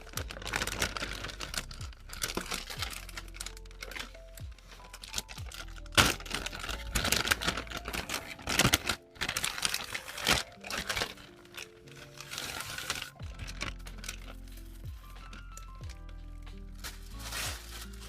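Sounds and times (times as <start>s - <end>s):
packaging crinkling and clicking: 0.0s - 18.0s
soft lo-fi music: 0.0s - 18.0s.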